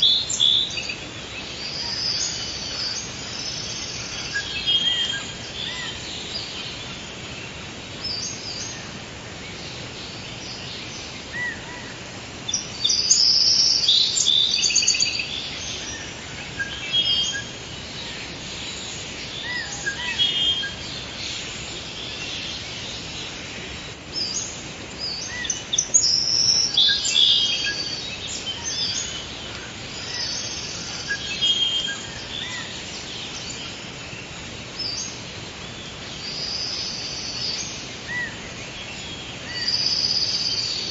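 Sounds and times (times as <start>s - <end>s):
birds chirping and calling: 0.0s - 40.9s
steady background hiss: 0.0s - 40.9s.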